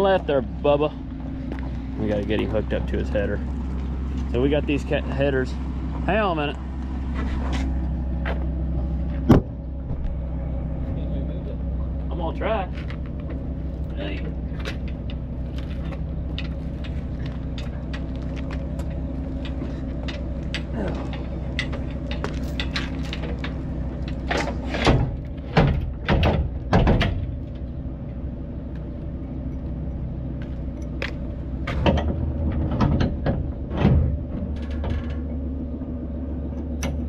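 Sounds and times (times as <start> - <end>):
vehicle engine idling: 0.0 - 37.0.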